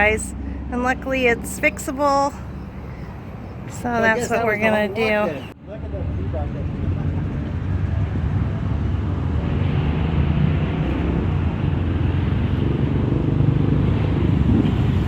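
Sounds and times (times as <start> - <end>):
car engine rumble: 0.0 - 15.0
road traffic noise: 0.0 - 15.0.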